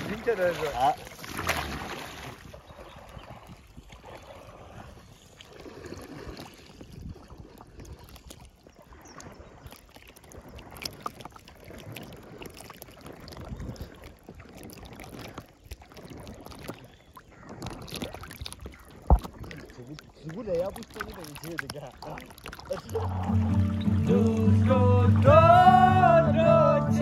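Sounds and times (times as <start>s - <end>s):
water lapping against canoe hull: 0.0s - 27.0s.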